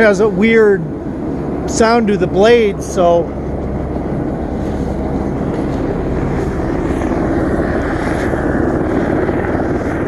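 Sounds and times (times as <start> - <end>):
helicopter rotor chopping drone: 0.0 - 10.0.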